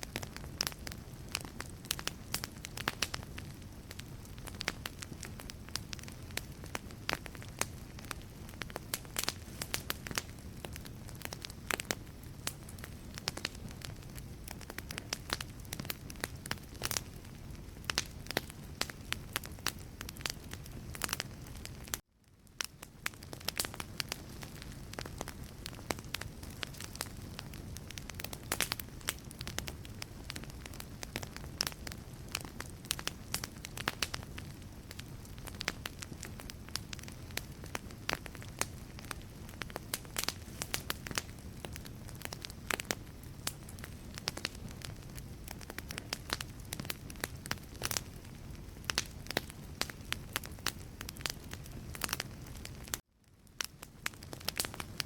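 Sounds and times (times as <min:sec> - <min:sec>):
logs crackling and popping: 0:00.0 - 0:55.0
hiss of flames: 0:00.1 - 0:22.0, 0:23.0 - 0:53.0.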